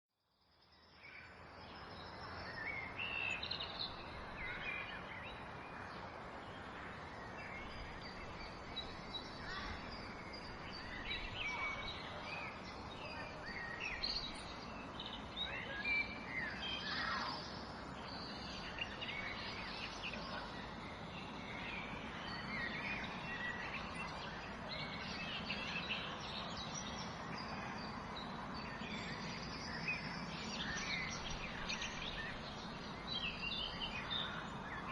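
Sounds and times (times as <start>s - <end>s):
steady background hiss: 0.4s - 34.9s
birds chirping and calling: 2.4s - 34.9s.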